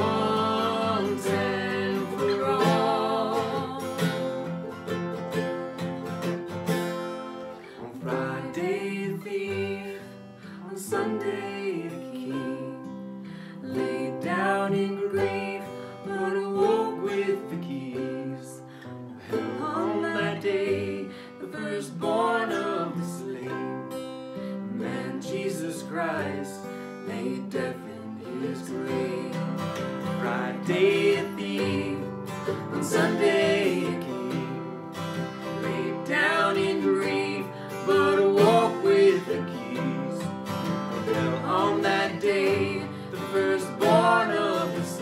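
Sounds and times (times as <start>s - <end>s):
woman and man singing a hymn: 0.0s - 4.6s, 7.6s - 45.0s
acoustic guitar strumming: 0.0s - 45.0s
ukulele strumming: 0.0s - 45.0s.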